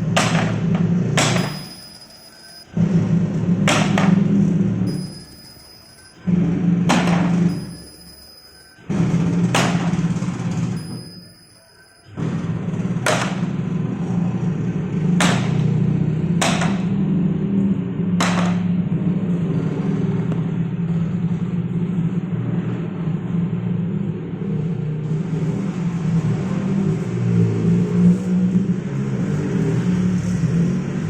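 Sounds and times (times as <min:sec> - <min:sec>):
machinery humming: 0:00.0 - 0:31.0.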